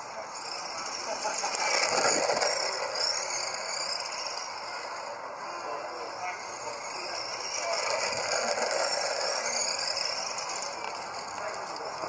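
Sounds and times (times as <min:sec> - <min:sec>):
rc car motor whining: 0:00.0 - 0:12.0.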